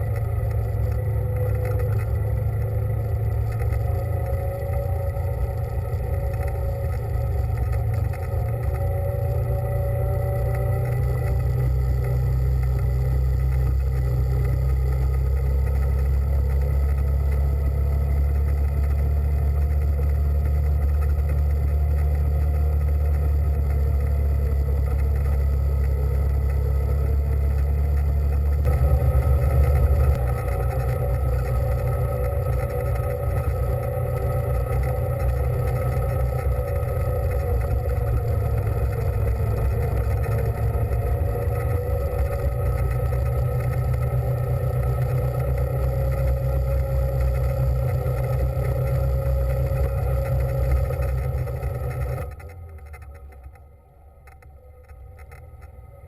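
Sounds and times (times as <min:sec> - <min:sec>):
small engine humming: 0:00.0 - 0:56.0.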